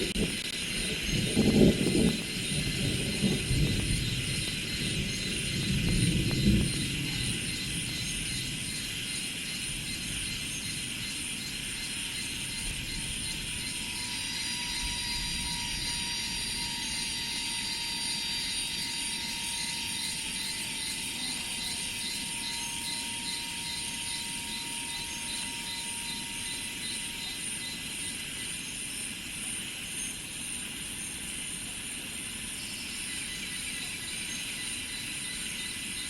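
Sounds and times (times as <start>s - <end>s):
insect chorus buzzing: 0.0s - 36.0s.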